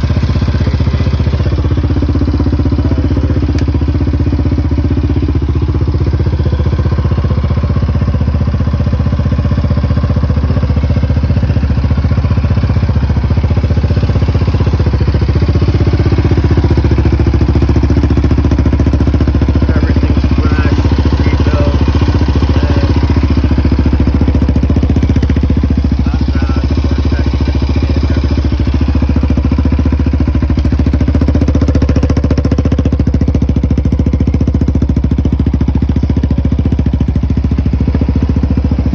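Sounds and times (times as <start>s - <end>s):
atv engine idling: 0.0s - 38.9s.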